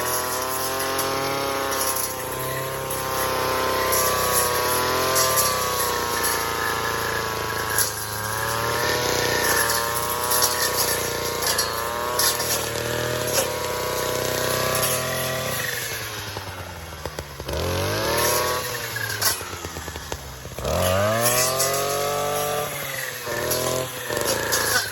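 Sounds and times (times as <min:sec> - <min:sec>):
weed trimmer engine: 0:00.0 - 0:24.9.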